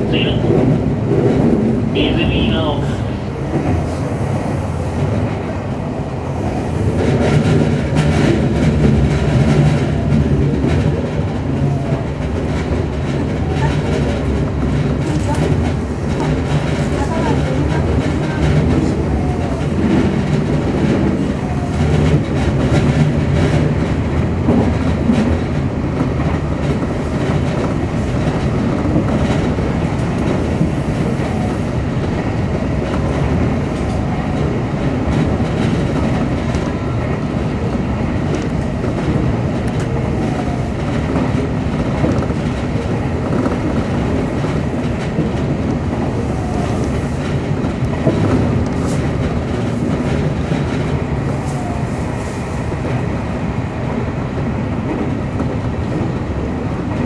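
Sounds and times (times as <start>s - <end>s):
rail joint clicks: 0.0s - 57.0s
train wheels rumbling on rail: 0.0s - 57.0s.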